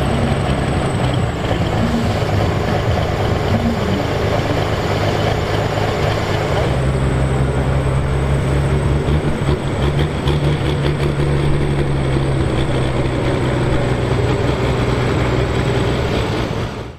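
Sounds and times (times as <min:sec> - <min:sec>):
tractor diesel engine droning: 0:00.0 - 0:16.9.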